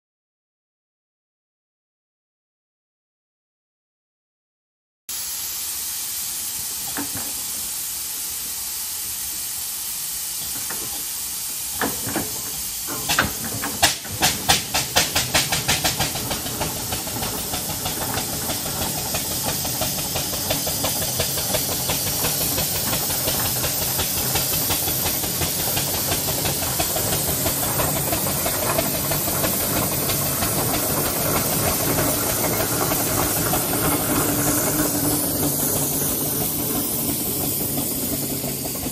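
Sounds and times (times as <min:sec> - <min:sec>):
steam hissing: 0:05.1 - 0:38.9
steam roller exhaust chuffs: 0:05.1 - 0:38.9.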